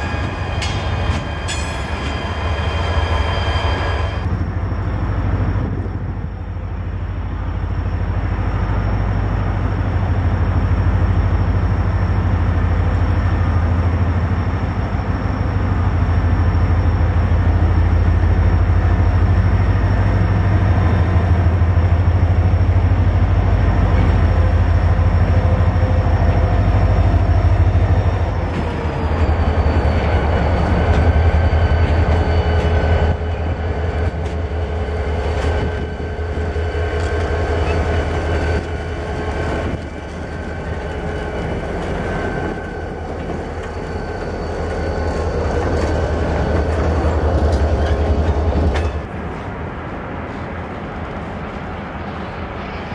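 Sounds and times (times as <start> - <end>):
diesel locomotive engine rumbling: 0.0 - 52.9
high engine whine: 0.0 - 52.9.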